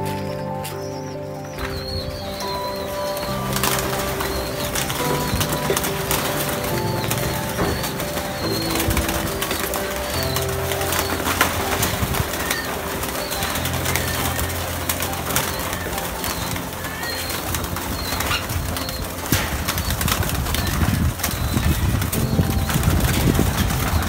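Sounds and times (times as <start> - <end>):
pigeons cooing: 0.7 - 24.0
wings flapping: 1.6 - 24.0.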